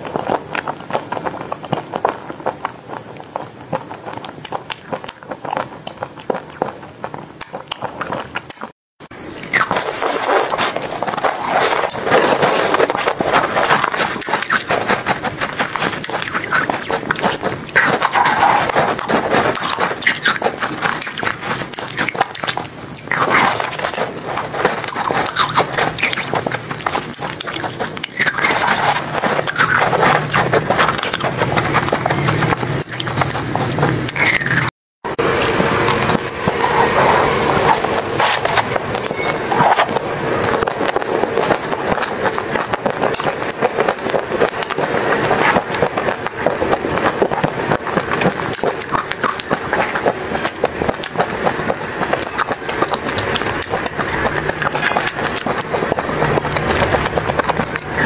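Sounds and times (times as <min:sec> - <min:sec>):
biting and chewing ice lollies: 0:00.0 - 0:58.0.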